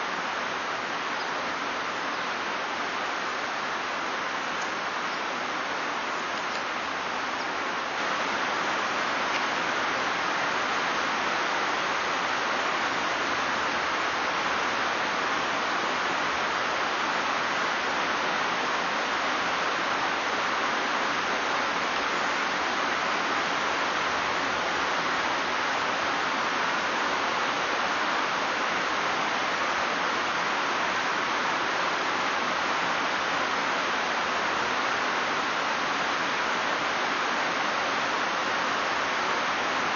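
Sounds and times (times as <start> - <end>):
rushing white water: 0.0 - 39.9.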